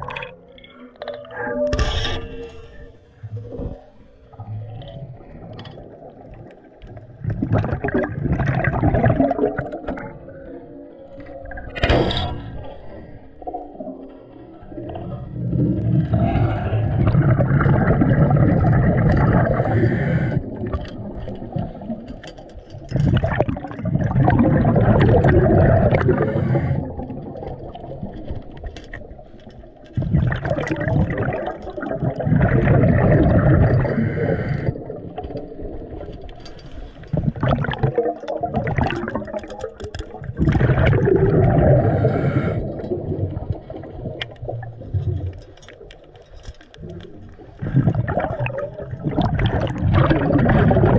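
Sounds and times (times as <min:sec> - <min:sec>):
exhaled bubbles gurgling underwater: 0:00.0 - 0:01.8, 0:02.6 - 0:50.9.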